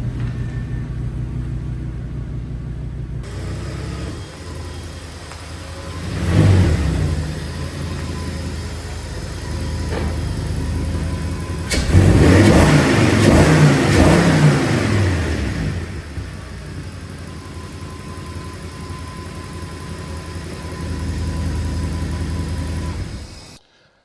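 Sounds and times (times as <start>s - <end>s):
car engine accelerating: 0.0s - 23.6s.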